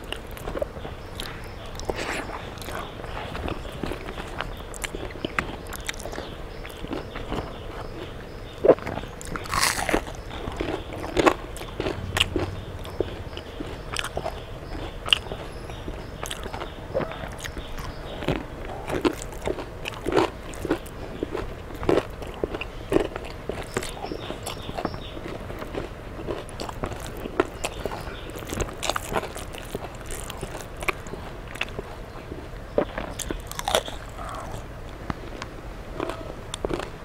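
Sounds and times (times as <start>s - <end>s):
crunchy bites and chewing: 0.0s - 37.0s.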